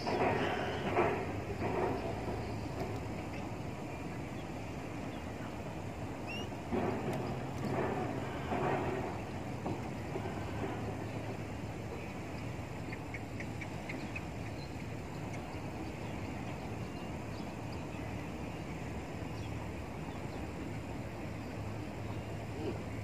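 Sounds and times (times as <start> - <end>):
outdoor background hum and hiss: 0.0 - 23.0.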